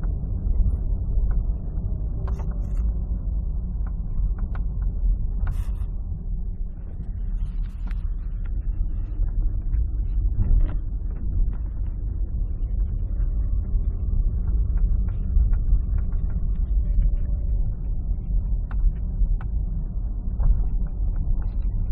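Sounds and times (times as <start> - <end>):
car road rumble in cabin: 0.0 - 21.9.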